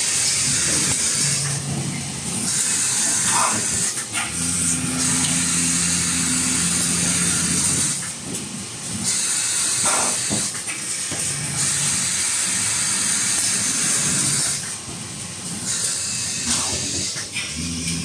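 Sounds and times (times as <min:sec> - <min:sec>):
packing machine hissing: 0:00.0 - 0:18.0.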